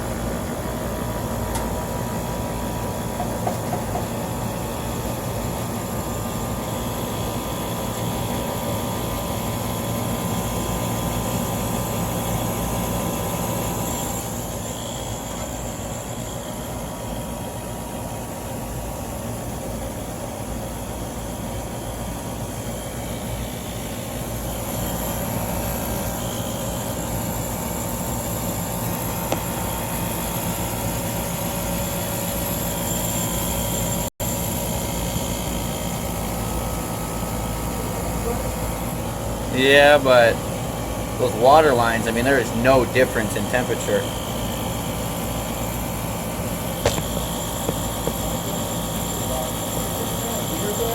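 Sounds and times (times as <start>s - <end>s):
hvac unit humming: 0.0s - 50.9s.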